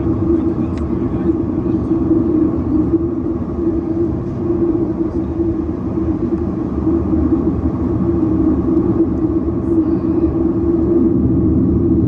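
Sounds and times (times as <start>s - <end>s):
airflow rushing: 0.0s - 12.0s
constant low hum: 0.0s - 12.0s
jet engines rushing: 0.0s - 12.0s.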